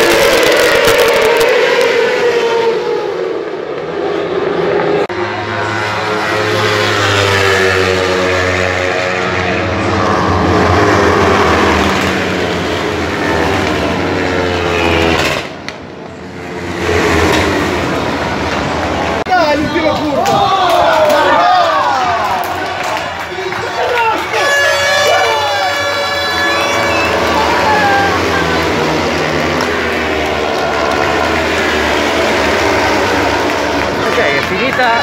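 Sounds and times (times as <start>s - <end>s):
racing motorcycles passing: 0.0s - 35.0s.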